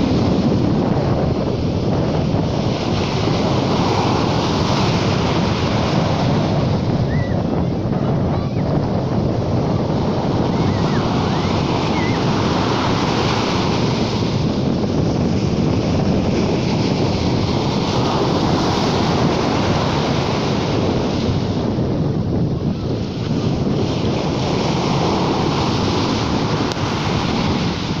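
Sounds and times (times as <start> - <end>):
sea waves washing on shore: 0.0 - 28.0
wind rumbling on microphone: 0.0 - 28.0.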